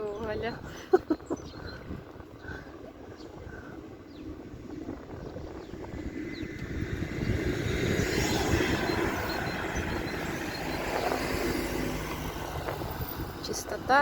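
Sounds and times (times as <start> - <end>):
bicycle tyre rumble: 0.0 - 14.0
wind buffeting microphone: 0.0 - 14.0.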